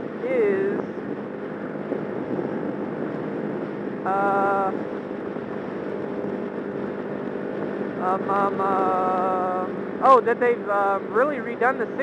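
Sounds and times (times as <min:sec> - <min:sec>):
motorcycle engine drone: 0:00.0 - 0:12.0
wind and road noise: 0:00.0 - 0:12.0.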